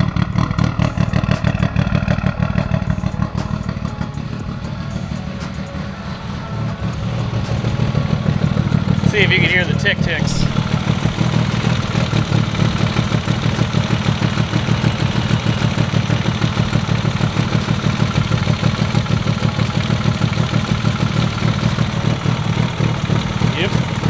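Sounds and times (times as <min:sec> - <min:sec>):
car engine idling: 0:00.0 - 0:24.0
engine ticking: 0:00.0 - 0:24.0.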